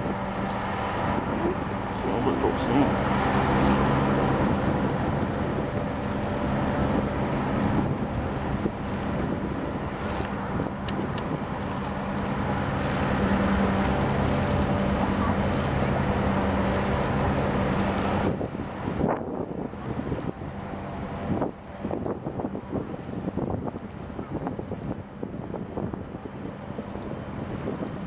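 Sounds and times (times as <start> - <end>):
low ship engine hum: 0.0 - 28.0
wind buffeting microphone: 0.0 - 28.0.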